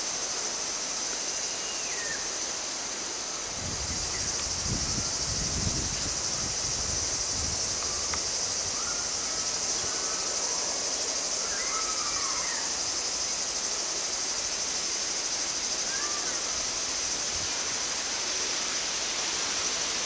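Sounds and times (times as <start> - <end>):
high-pitched insect chorus: 0.0 - 20.0
short insect chirps: 0.6 - 17.2.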